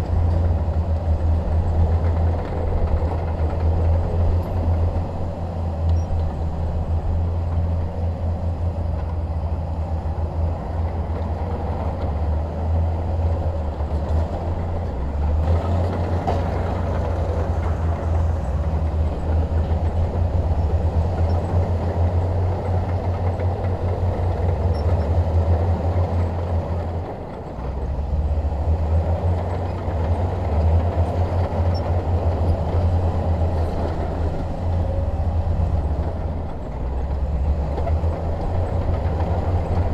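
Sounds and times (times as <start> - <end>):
bulldozer diesel engine rumbling: 0.0 - 39.9.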